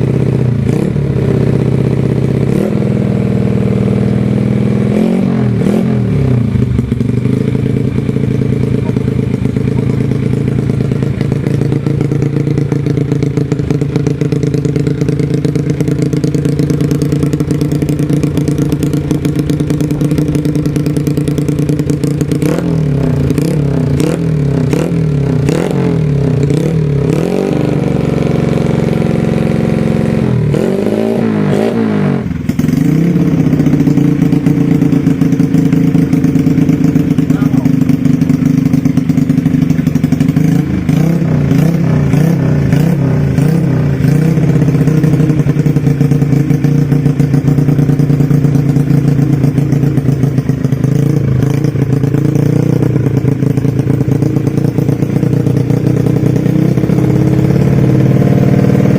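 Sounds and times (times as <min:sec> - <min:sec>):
motorcycle engine idling: 0:00.0 - 0:58.9
motorcycle throttle blips: 0:00.0 - 0:58.9.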